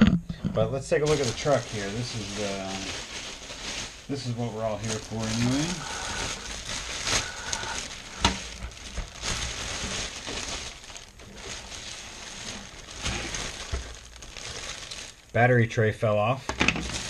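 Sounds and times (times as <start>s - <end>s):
plastic bag crinkling: 0.9s - 15.7s, 16.5s - 17.0s.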